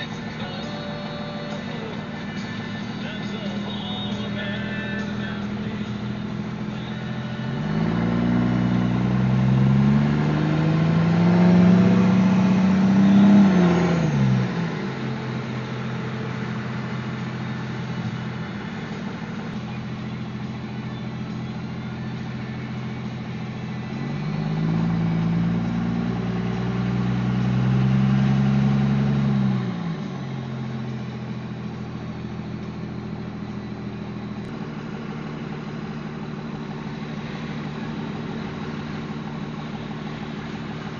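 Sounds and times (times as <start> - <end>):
diesel truck accelerating: 0.0 - 40.9
road noise: 0.0 - 40.9.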